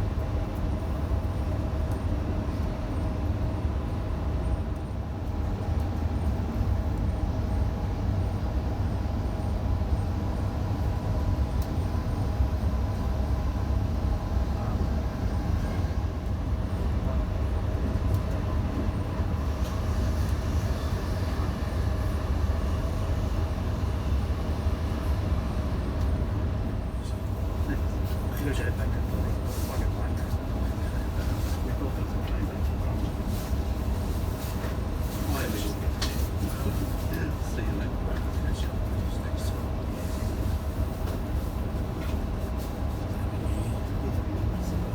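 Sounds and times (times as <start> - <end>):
train wheels rumbling on track: 0.0 - 44.9.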